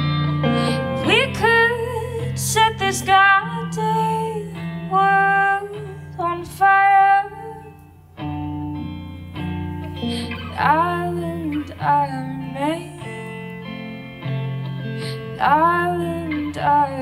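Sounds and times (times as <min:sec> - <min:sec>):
electric guitar sustained chords: 0:00.0 - 0:17.0.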